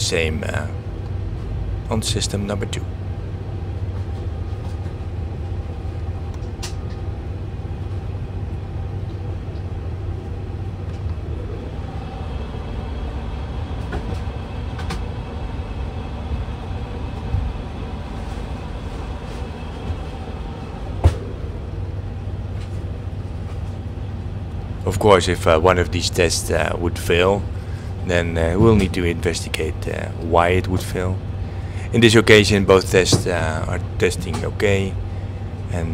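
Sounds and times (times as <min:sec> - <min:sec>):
aircraft cockpit hum: 0:00.0 - 0:35.9.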